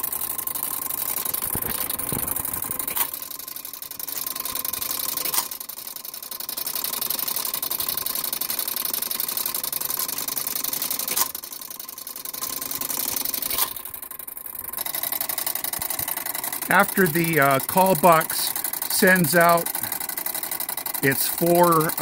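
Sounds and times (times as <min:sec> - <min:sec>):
clockwork whirring and ticking: 0:00.0 - 0:22.0.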